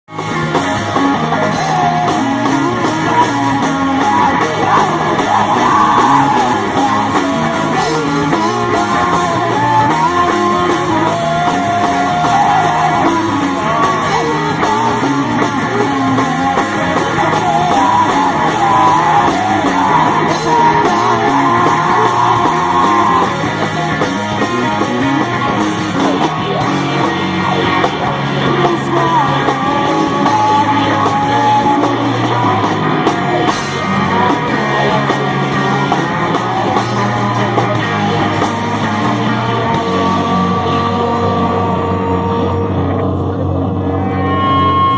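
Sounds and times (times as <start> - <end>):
rock band playing live: 0.0 - 44.9
person yelling sung vocals: 1.3 - 23.6, 28.5 - 43.0.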